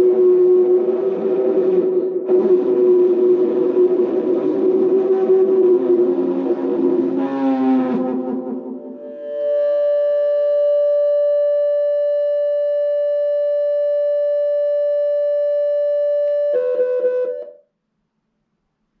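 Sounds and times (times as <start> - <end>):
high held tone: 0.0 - 17.6.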